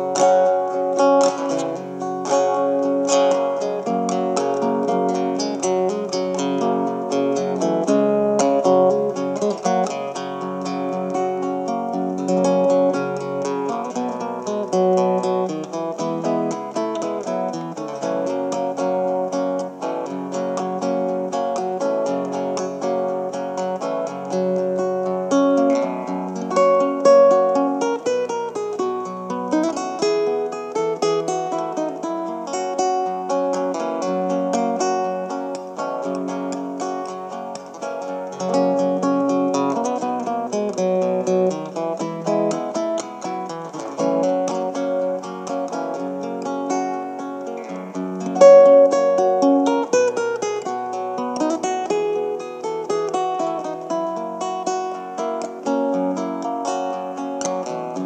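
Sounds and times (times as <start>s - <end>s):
acoustic guitar instrumental: 0.0s - 58.0s.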